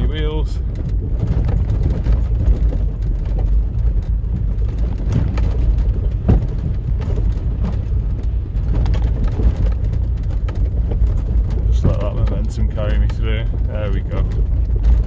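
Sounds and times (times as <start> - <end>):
diesel engine pulling uphill: 0.0 - 15.0
suspension knocks and clunks: 0.0 - 15.0.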